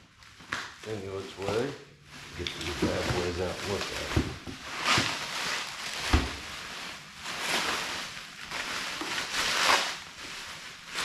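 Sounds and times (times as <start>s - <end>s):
packaging rustling and crinkling: 0.1s - 11.0s.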